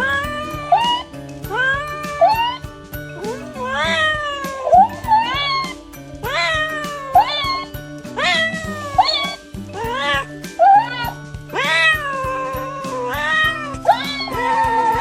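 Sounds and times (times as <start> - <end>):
cat meowing: 0.0 - 2.6, 3.2 - 15.0
background music with bass line: 0.0 - 15.0.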